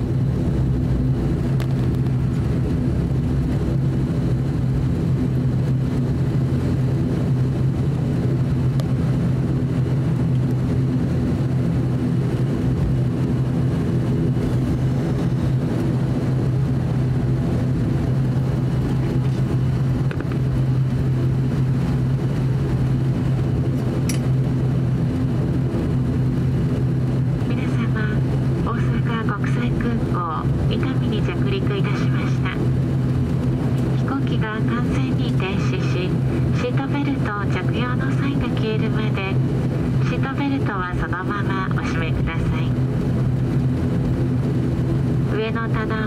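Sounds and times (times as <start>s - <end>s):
turboprop engine droning: 0.0s - 46.0s.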